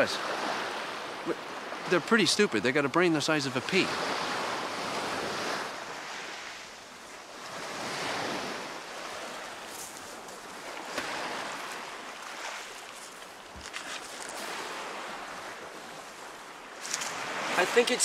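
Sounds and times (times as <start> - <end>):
waves washing onto pebble shore: 3.2 - 18.0.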